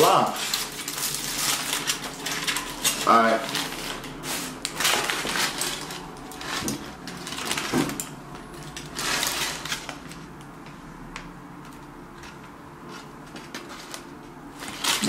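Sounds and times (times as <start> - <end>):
foil and paper wrappers crinkling: 0.0 - 10.5, 13.3 - 15.0.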